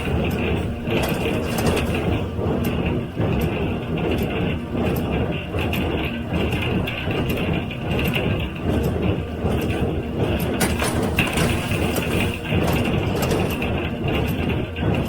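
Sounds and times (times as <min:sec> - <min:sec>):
baler mechanical drone: 0:00.0 - 0:15.0
clattering knocks from machinery: 0:00.0 - 0:15.0.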